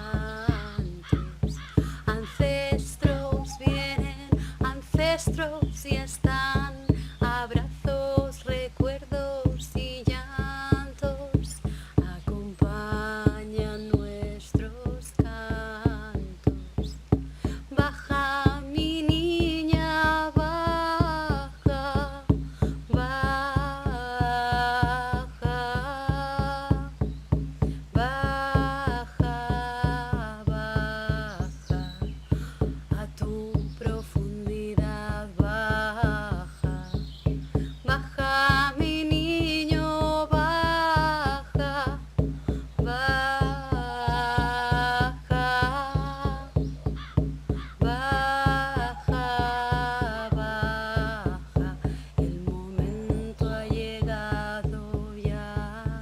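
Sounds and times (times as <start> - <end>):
wordless singing: 0.0 - 17.0, 17.6 - 56.0
deep drum beat: 0.0 - 56.0.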